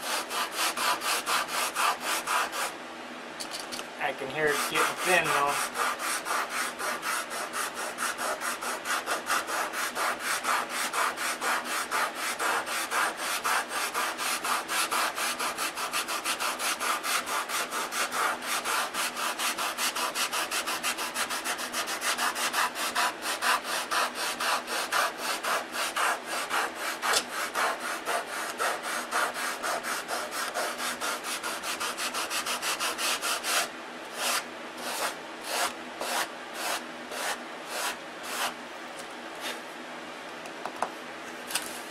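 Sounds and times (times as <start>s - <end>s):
sandpaper rasping on wood: 0.0s - 2.7s, 4.1s - 38.6s.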